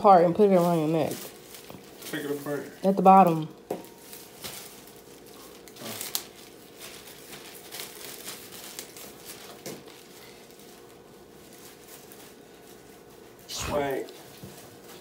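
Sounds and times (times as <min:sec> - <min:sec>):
plastic bib crinkling: 0:00.0 - 0:03.2, 0:03.8 - 0:15.0.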